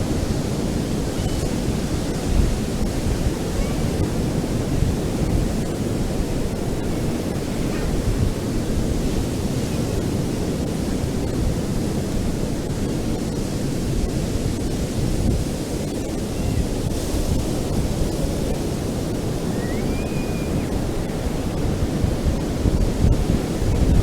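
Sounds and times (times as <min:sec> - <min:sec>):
ocean surf washing in: 0:00.0 - 0:24.0.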